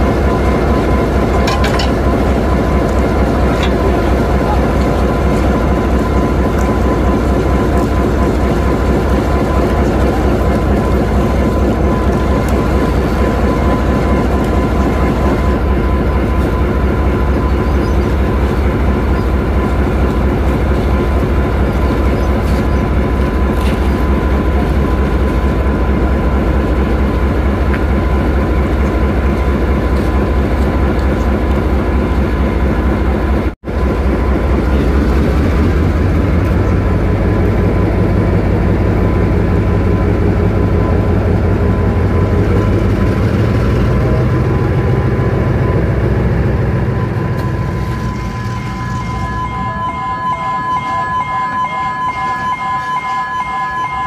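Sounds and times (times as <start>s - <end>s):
diesel locomotive idling: 0.0s - 54.0s
steady whine: 0.0s - 54.0s.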